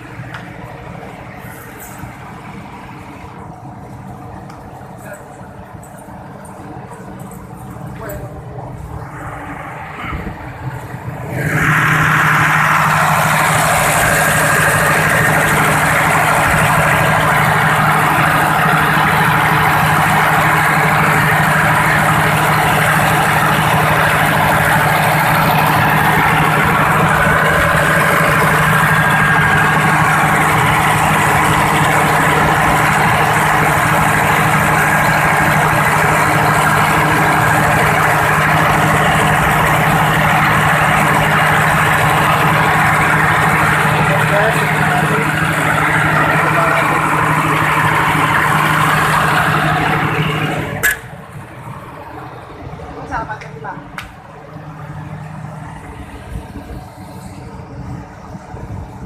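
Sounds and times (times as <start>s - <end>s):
diesel generator running: 0.0s - 59.0s.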